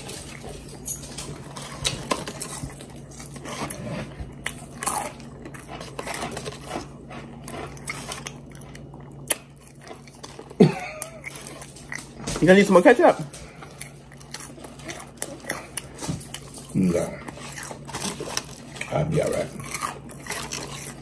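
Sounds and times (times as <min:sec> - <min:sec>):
faint steady hum: 0:00.0 - 0:21.0
people biting and chewing food: 0:00.0 - 0:21.0.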